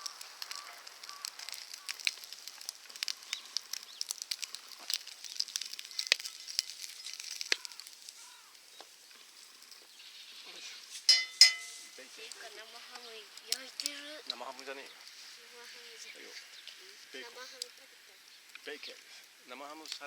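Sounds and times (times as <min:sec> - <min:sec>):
bacon sizzling and popping: 0:00.0 - 0:20.0.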